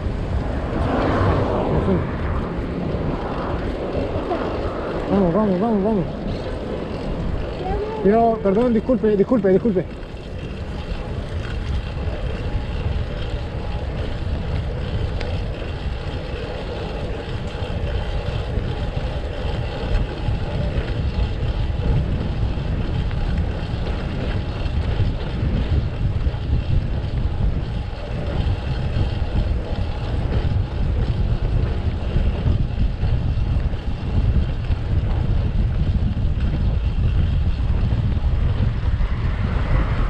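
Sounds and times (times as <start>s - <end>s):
road and traffic noise: 0.0s - 40.0s
wind buffeting microphone: 0.0s - 40.0s.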